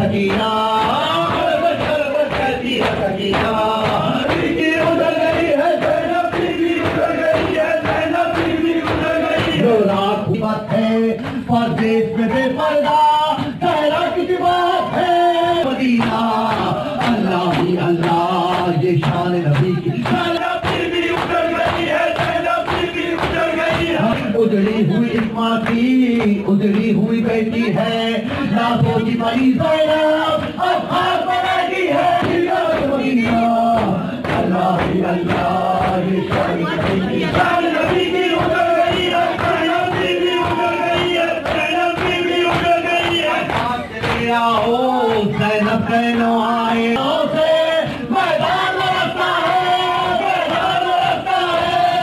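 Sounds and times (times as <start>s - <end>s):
male voices chanting in chorus: 0.0s - 52.0s
rhythmic beat of strikes: 0.0s - 52.0s.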